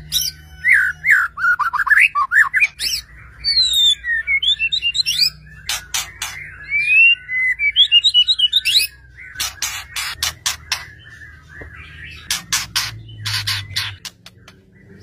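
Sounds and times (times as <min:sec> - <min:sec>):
bird singing varied song: 0:00.0 - 0:15.0.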